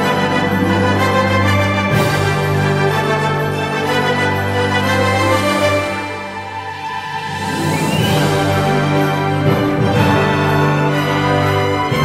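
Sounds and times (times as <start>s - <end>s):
background music with held chords: 0.0s - 12.0s.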